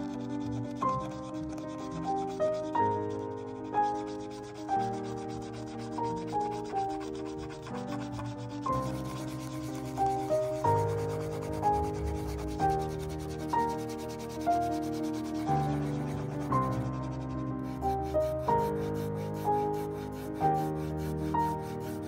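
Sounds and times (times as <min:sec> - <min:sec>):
marker tip scratching on tape: 0:00.0 - 0:22.0.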